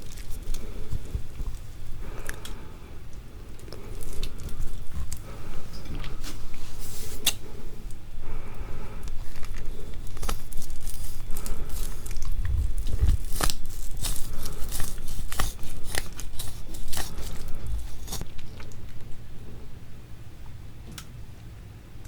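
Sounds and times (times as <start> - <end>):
wet chewing with crackles: 0.0 - 7.6, 8.5 - 19.2.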